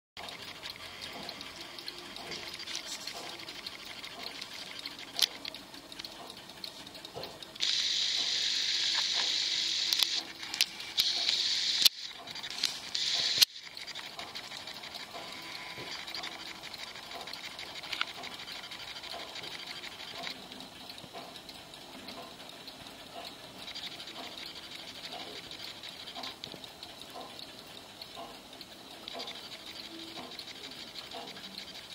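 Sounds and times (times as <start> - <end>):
pendulum clock ticking softly: 0.2 - 31.9
sharp clicks: 0.2 - 31.9.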